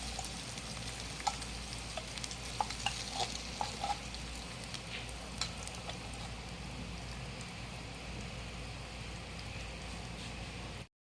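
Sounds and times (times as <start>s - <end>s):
food frying sizzle: 0.0s - 10.9s.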